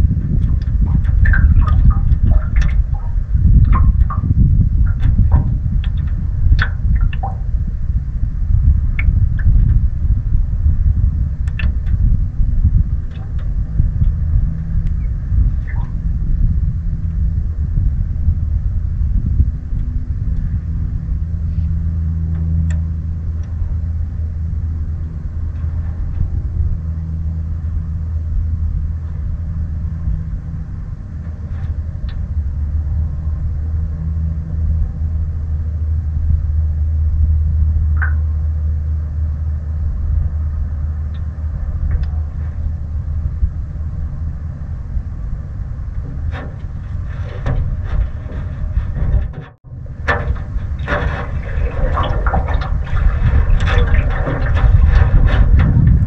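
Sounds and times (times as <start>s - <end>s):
small boat motor humming: 0.0s - 56.0s.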